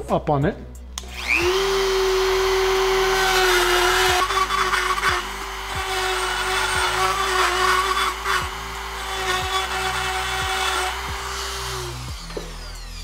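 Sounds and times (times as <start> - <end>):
rotary tool grinding steel: 1.1 - 13.0.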